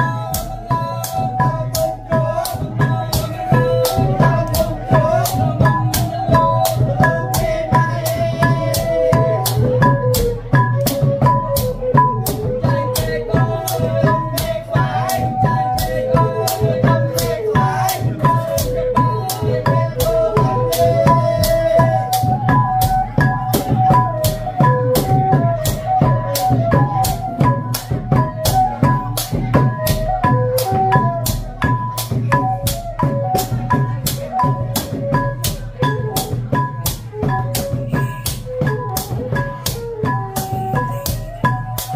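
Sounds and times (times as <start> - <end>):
drums and rattling percussion: 0.0 - 41.9.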